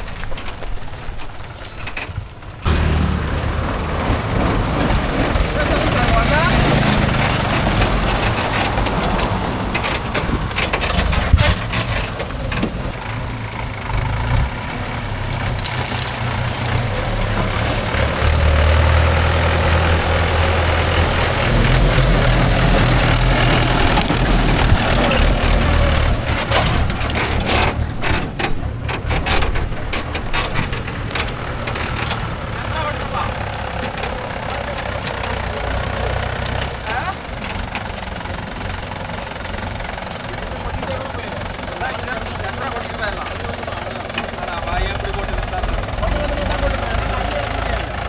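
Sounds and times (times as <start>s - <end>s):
diesel machinery engine running: 0.0s - 48.0s.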